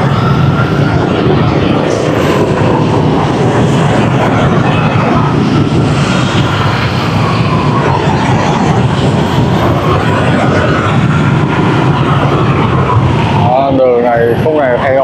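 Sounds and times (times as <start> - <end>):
dense motorbike traffic: 0.0 - 15.0.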